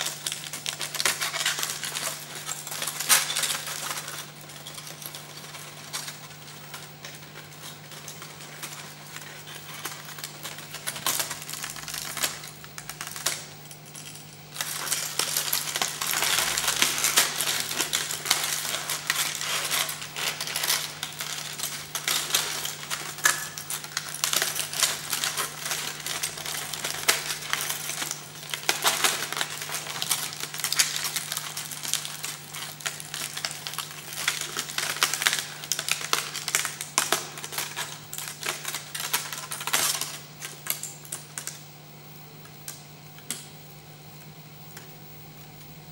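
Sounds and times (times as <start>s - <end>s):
aluminium foil crinkling: 0.0s - 41.7s
faint steady hum: 0.0s - 45.9s.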